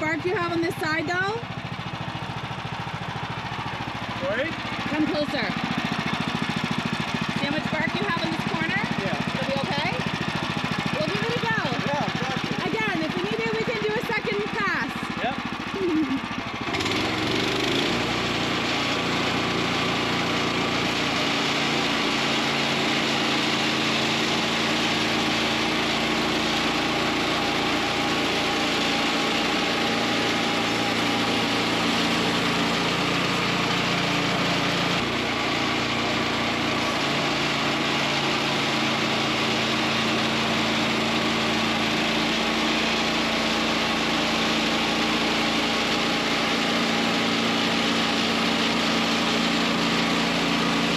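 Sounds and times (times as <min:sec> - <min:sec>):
small gas engine running under load: 0:00.0 - 0:50.9.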